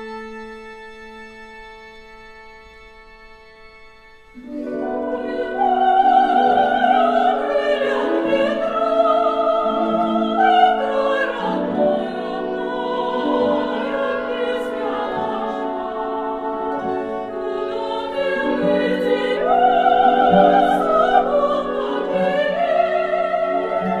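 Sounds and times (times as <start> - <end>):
operatic choir with orchestra: 0.0 - 2.2, 4.2 - 24.0.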